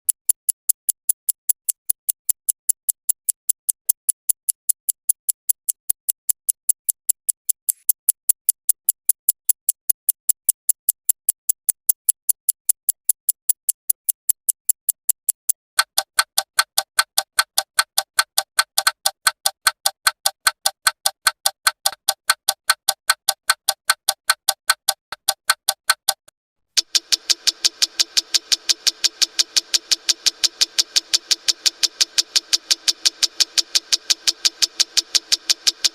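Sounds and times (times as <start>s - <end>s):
clock ticking: 0.1s - 35.9s.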